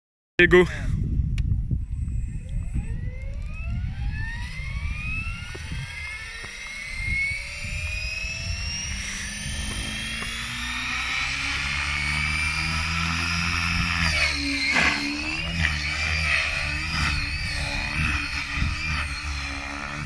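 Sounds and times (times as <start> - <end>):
electric motor whine rising: 1.7 - 20.0.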